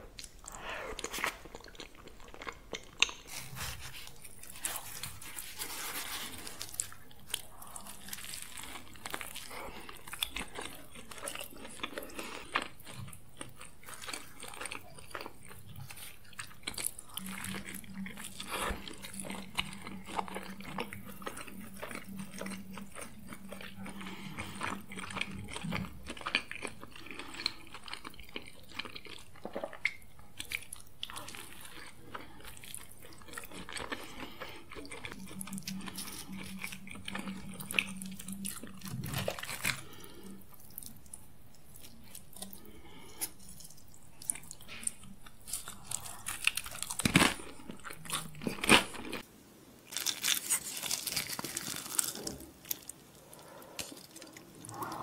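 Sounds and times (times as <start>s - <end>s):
low steady hum: 0.0s - 55.0s
crunchy chewing: 0.2s - 49.3s, 49.9s - 55.0s.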